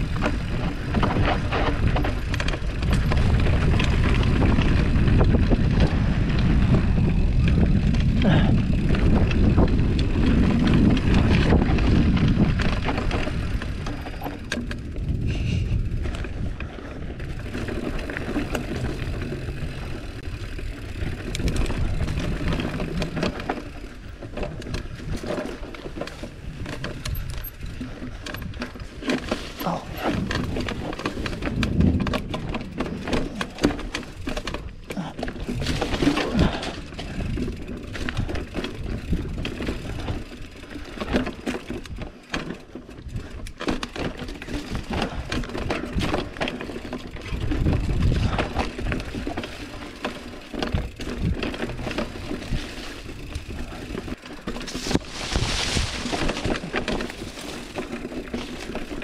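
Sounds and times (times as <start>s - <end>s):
bike rattling over bumps: 0.0s - 59.0s
bike tyres on dirt trail: 0.0s - 59.0s.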